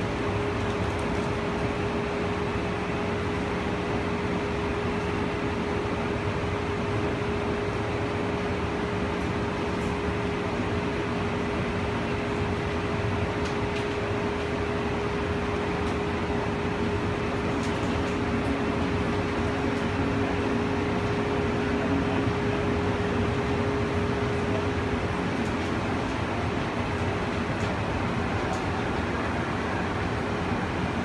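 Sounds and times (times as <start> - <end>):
constant hum: 0.0 - 31.0
vehicle running rumble and hiss: 0.0 - 31.0.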